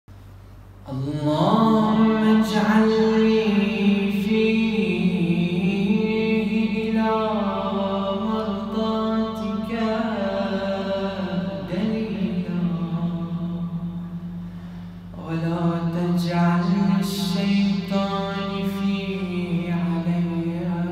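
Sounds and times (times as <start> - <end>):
man chanting melodically: 0.9 - 20.9.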